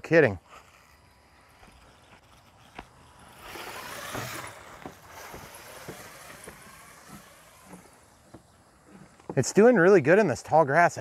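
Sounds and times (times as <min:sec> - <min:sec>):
grass and weeds rustling: 0:00.4 - 0:09.6.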